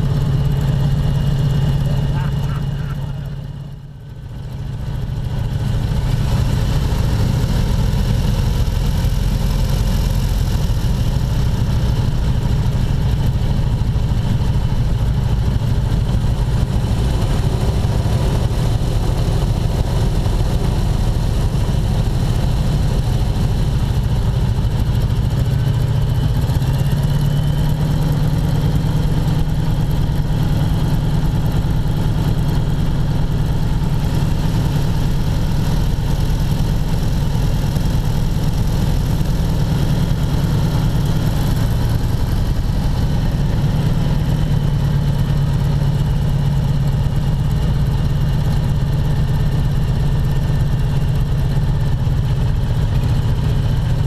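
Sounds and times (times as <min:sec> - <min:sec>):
airplane engines droning: 0:00.0 - 0:03.8, 0:04.6 - 0:45.0.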